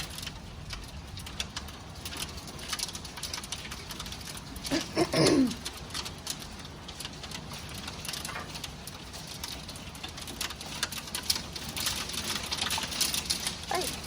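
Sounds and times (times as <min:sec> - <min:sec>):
hail ticking on hard surfaces: 0:00.0 - 0:14.0
rain hiss: 0:00.0 - 0:14.0.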